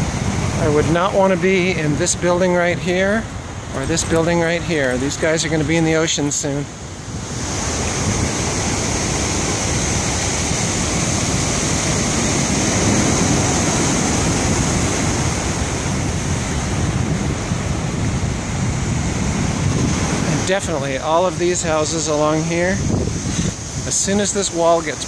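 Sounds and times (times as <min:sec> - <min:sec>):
storm waves breaking on rocks: 0:00.0 - 0:25.0
wind buffeting microphone: 0:00.0 - 0:25.0.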